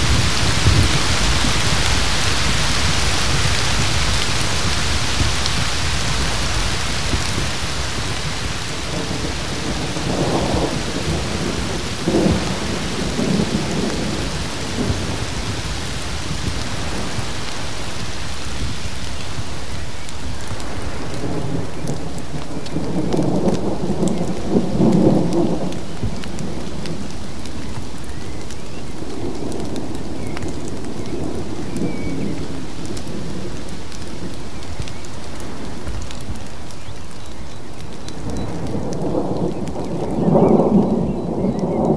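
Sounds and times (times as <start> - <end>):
rain hissing: 0.0 - 41.9
thunder rumbling: 0.0 - 41.9.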